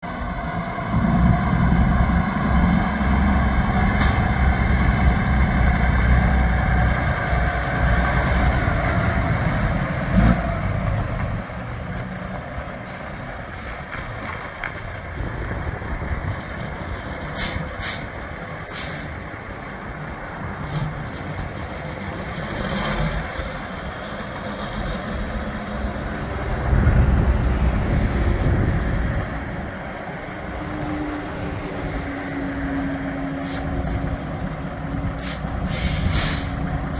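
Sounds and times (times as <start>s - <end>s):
diesel truck engine running: 0.0s - 36.9s.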